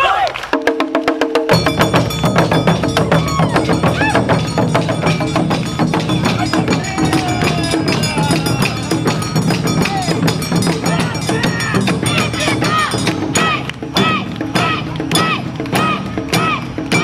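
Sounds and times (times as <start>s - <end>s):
taiko drums beating fast rhythm: 0.5s - 17.0s
band instruments playing: 1.5s - 17.0s.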